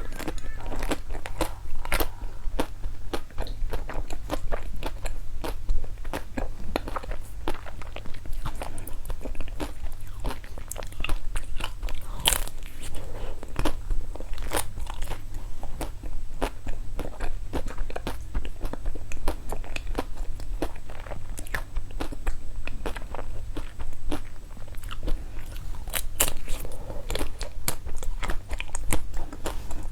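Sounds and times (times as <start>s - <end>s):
person chewing crunchy candy: 0.0s - 29.9s
steady low hum: 0.0s - 29.9s.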